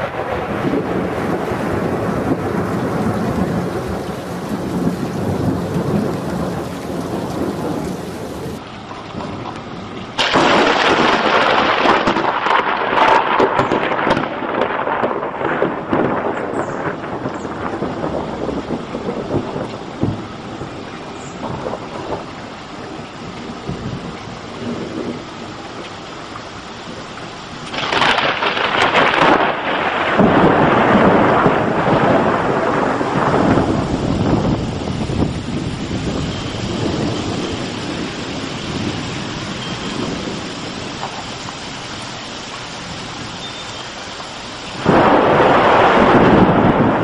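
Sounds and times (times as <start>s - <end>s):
loud thunder clap rumbling: 0.0s - 25.9s, 27.7s - 41.5s, 44.8s - 47.0s.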